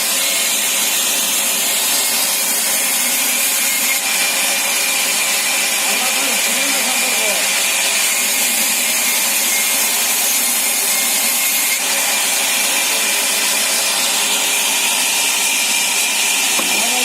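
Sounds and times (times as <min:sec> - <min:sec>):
saw cutting wood with whine: 0:00.0 - 0:17.0.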